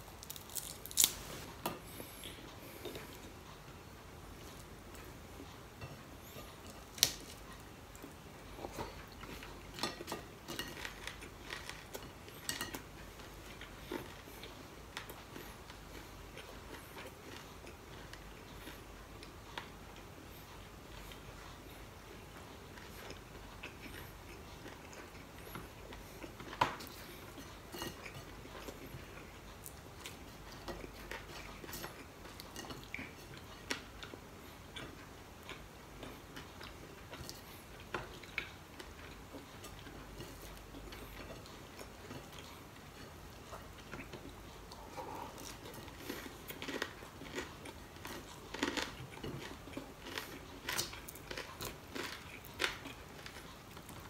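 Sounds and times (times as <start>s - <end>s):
person chewing and crunching: 0.0s - 3.6s, 4.4s - 54.0s.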